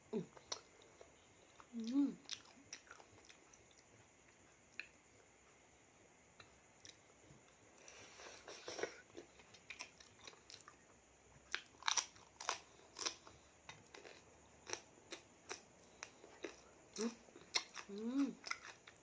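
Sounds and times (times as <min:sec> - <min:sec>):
person chewing crunchy food: 0:00.3 - 0:04.9, 0:07.8 - 0:19.0.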